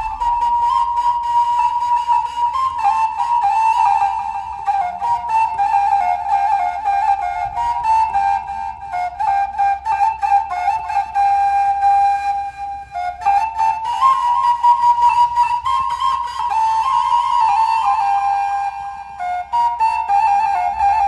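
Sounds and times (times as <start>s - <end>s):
flute melody: 0.0s - 21.0s.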